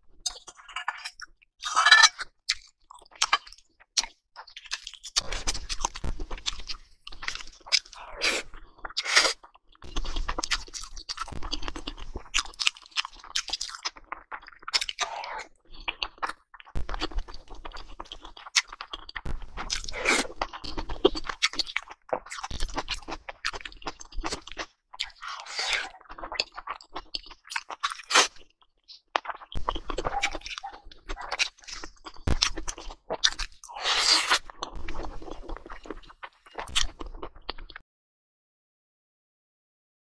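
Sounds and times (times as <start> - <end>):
person chewing and crunching: 0.2 - 37.8.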